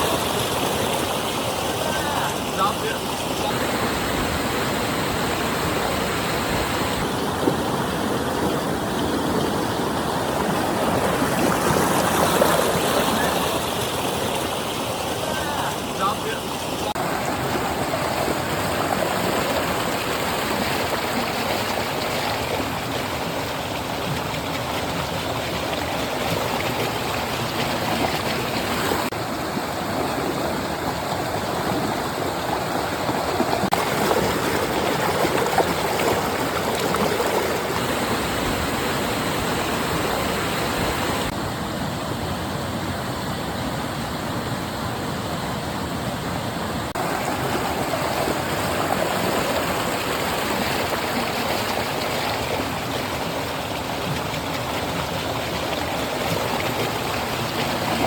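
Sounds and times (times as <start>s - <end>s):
stream water running: 0.0s - 58.0s.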